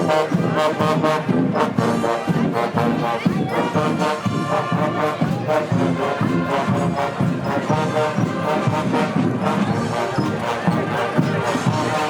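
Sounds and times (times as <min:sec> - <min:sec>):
loud brass: 0:00.0 - 0:12.0
steady drumbeat: 0:00.0 - 0:12.0.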